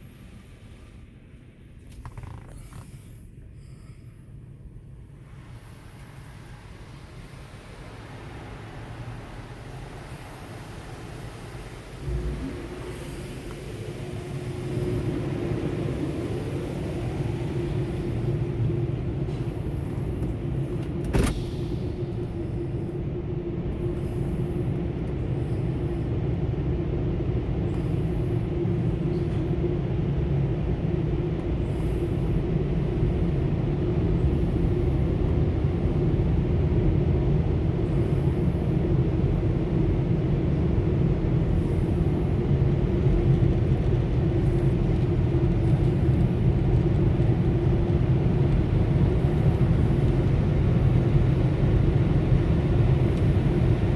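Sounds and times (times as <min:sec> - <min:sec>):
car wash machinery humming: 0:04.3 - 0:53.9.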